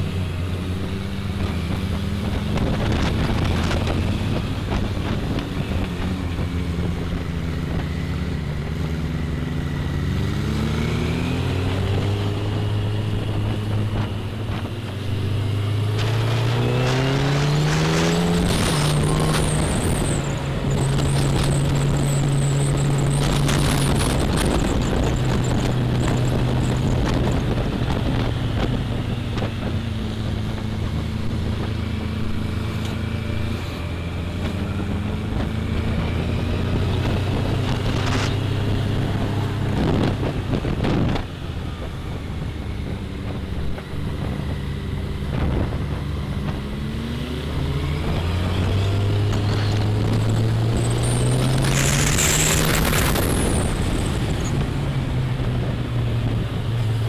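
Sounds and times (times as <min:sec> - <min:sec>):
motorcycle engine revving: 0:00.0 - 0:57.0
wind noise on microphone: 0:00.0 - 0:57.0.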